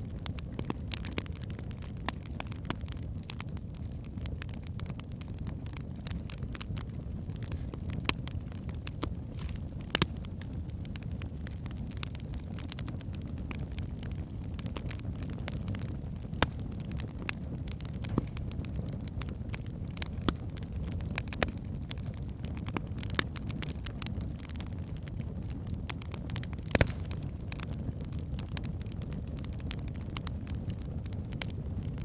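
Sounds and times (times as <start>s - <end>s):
fire crackling: 0.0s - 32.0s
low rumble of flame: 0.0s - 32.0s
logs popping: 0.5s - 3.4s, 5.7s - 25.2s, 25.9s - 30.3s.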